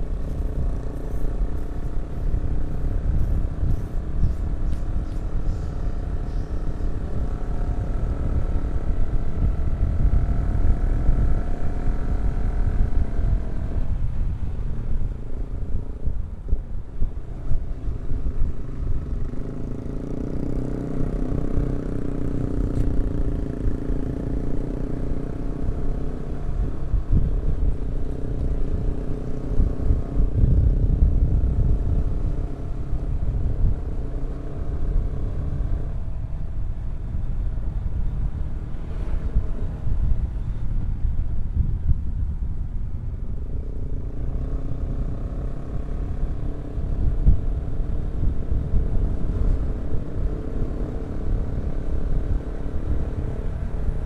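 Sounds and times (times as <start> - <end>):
motorcycle engines running: 0.0 - 54.0
wind rumble on microphone: 0.0 - 54.0.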